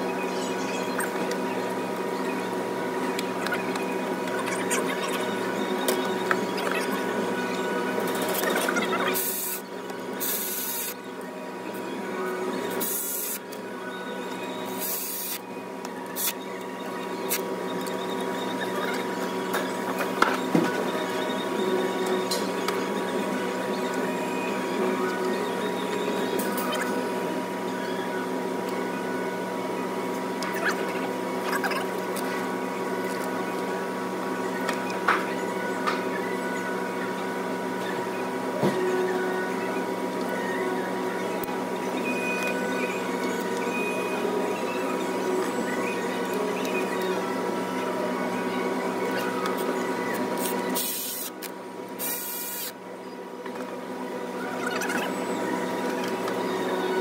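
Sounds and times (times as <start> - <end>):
steady background hum: 0.0 - 57.0.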